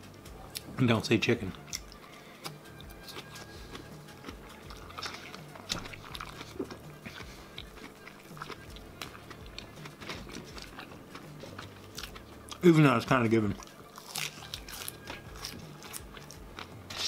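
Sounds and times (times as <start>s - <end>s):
quiet background music: 0.0s - 17.0s
chewing and biting sandwich: 1.5s - 12.6s, 13.5s - 17.0s.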